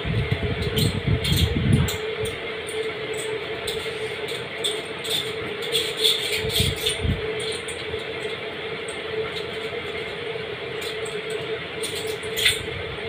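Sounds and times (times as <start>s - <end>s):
electric hum: 0.0s - 13.0s.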